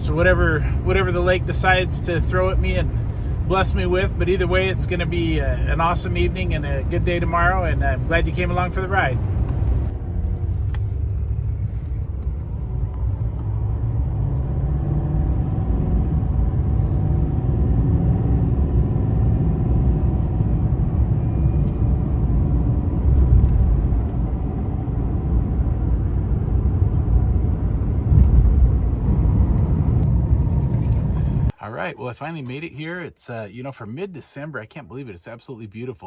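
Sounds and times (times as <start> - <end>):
truck engine rumble: 0.0 - 31.6
road noise: 0.0 - 32.6.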